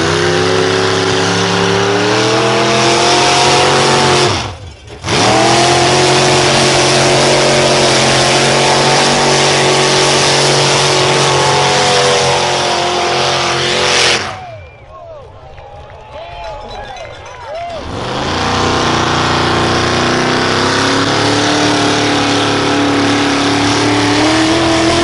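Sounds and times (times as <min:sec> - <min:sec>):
truck engine at full throttle: 0:00.0 - 0:14.9, 0:17.6 - 0:25.0.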